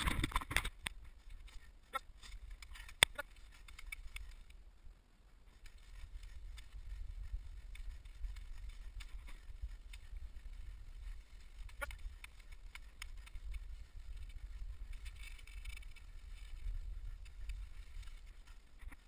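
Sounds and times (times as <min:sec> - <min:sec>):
ski poles clicking: 0:00.0 - 0:04.6, 0:05.5 - 0:19.0
skis running over snow: 0:00.0 - 0:19.0
wind rumble on microphone: 0:00.0 - 0:19.0.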